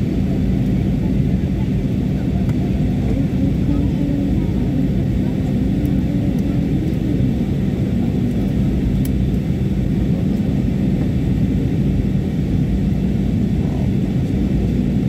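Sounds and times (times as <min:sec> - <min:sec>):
jet airliner cabin rumble: 0:00.0 - 0:15.0.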